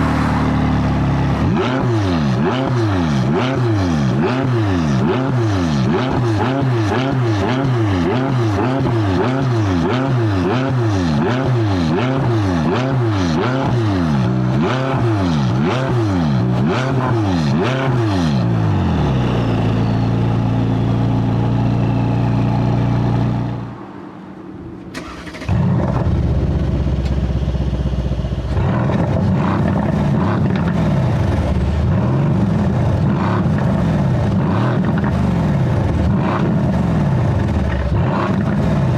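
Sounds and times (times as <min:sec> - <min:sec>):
car engine revving loud exhaust: 0:00.0 - 0:23.7, 0:25.0 - 0:38.9.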